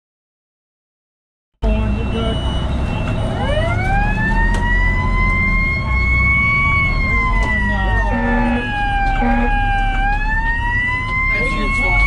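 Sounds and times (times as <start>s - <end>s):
fire engine siren wailing: 1.6s - 12.0s
road noise: 1.6s - 12.0s
truck engine rumble: 1.6s - 12.0s.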